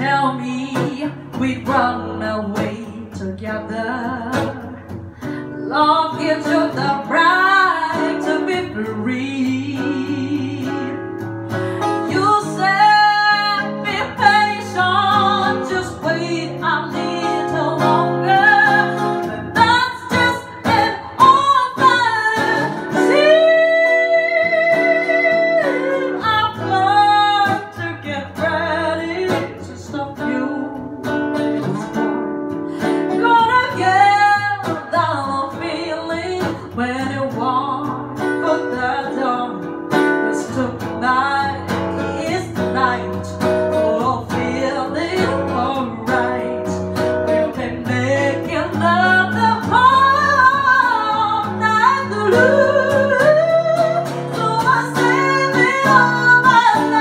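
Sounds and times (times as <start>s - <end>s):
acoustic guitar: 0.0s - 57.0s
woman singing a ballad: 0.0s - 57.0s.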